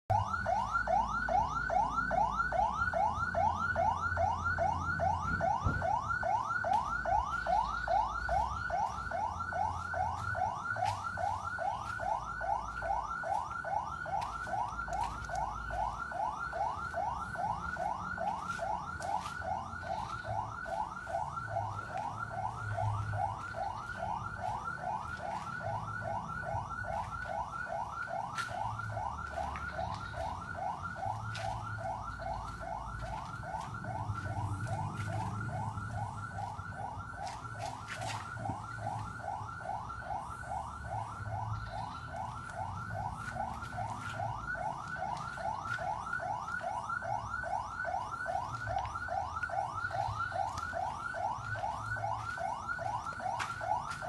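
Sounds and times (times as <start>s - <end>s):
ambulance siren yelping: 0.1s - 54.0s.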